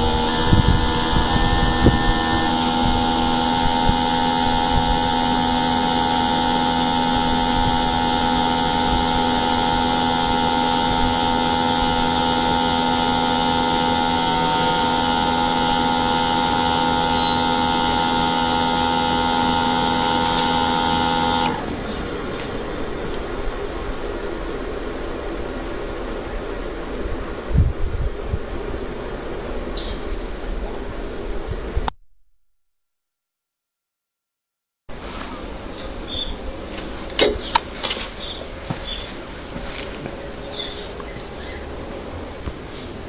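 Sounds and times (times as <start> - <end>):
air conditioner humming: 0.0 - 31.8, 34.9 - 43.0.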